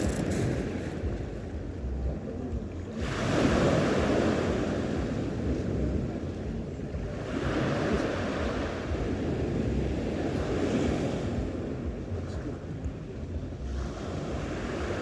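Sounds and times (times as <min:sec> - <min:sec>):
sea waves washing ashore: 0:00.0 - 0:15.0
wind on microphone: 0:00.0 - 0:15.0.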